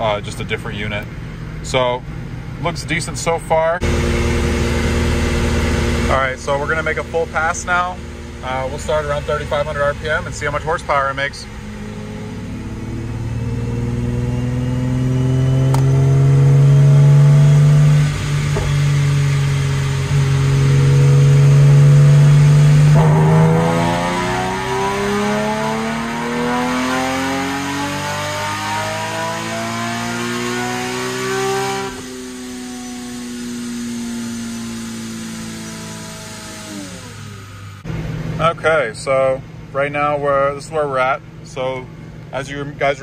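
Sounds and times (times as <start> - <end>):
car engine at full throttle: 0.0 - 43.0.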